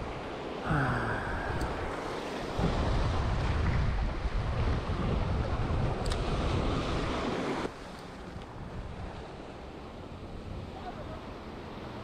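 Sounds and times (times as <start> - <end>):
waves breaking over rocks: 0.0 - 12.0
wind buffeting microphone: 1.2 - 11.3.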